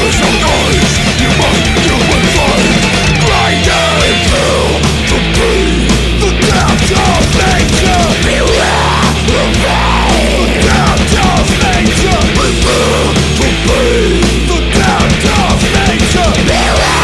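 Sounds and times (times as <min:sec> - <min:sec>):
metal music: 0:00.0 - 0:17.0.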